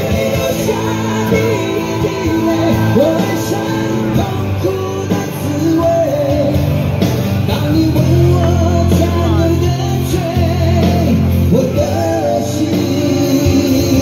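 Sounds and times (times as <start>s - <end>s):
man singing: 0.0s - 14.0s
pop-rock ballad through pa: 0.0s - 14.0s.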